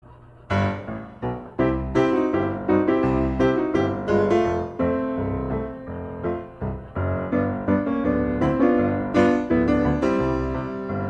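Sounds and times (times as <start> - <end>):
piano music: 0.3 - 11.0.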